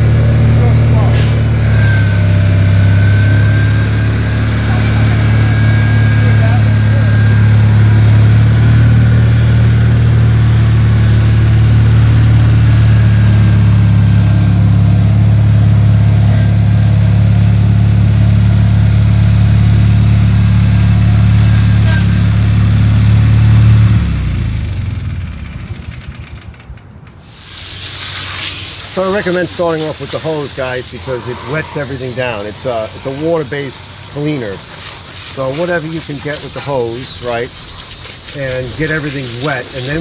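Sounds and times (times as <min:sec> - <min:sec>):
lawn tractor engine running: 0:00.0 - 0:40.0.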